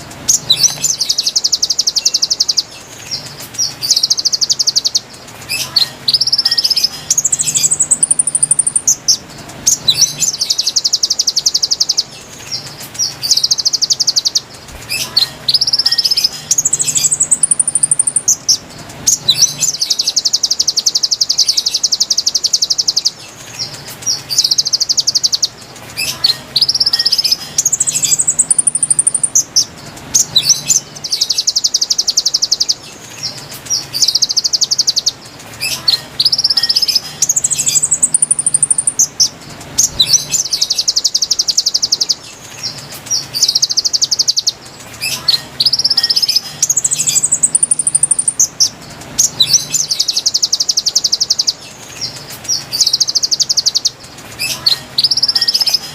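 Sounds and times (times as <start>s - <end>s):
bird song trills and chirps: 0.0s - 55.9s.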